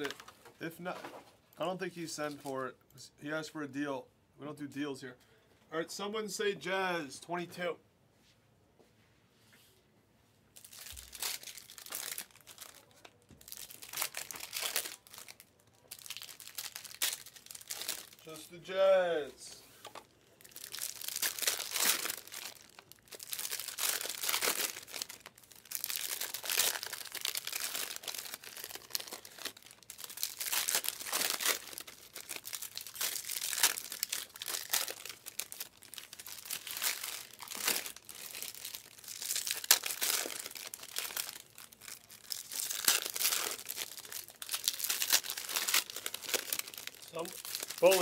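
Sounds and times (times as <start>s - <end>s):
card packs crinkling: 0.0s - 2.5s, 10.6s - 18.5s, 19.8s - 48.0s.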